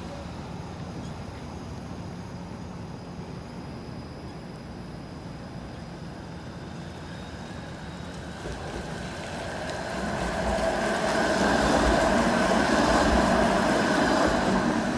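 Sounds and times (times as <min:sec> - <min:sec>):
streetcar wheels on rails: 0:00.0 - 0:14.9.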